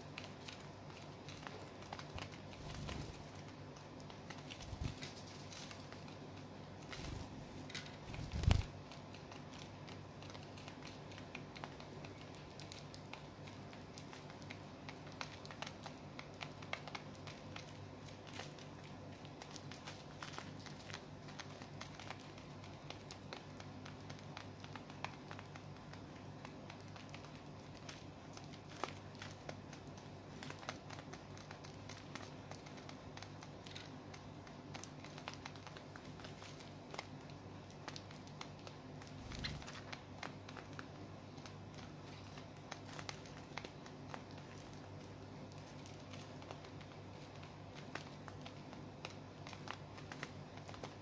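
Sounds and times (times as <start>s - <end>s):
birds pecking and husking seed: 0.0s - 51.0s.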